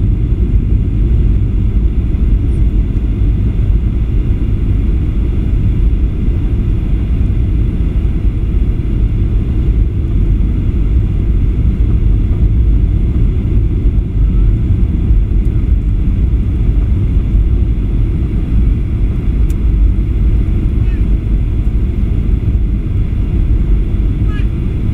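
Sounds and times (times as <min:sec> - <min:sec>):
airliner cabin rumble: 0:00.0 - 0:24.9.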